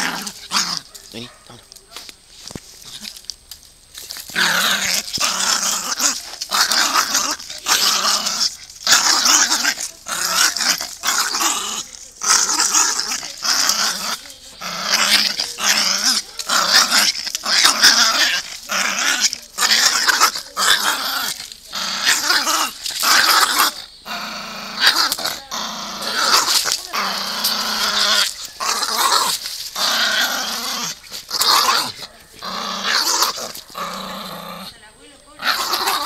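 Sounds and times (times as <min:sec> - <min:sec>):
dog growling and snarling: 0:00.0 - 0:01.7, 0:02.8 - 0:03.2, 0:04.0 - 0:36.0.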